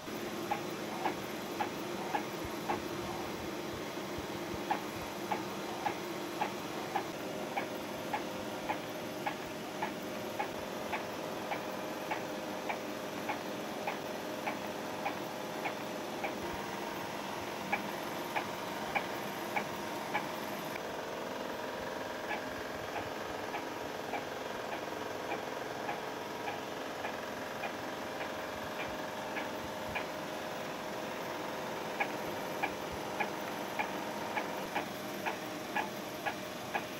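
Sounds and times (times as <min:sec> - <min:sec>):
printer motor hum: 0:00.0 - 0:36.9.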